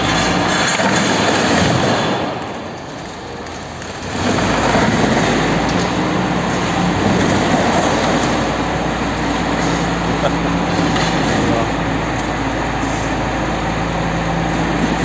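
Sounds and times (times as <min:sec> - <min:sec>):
machinery rattling loudly: 0:00.0 - 0:15.0.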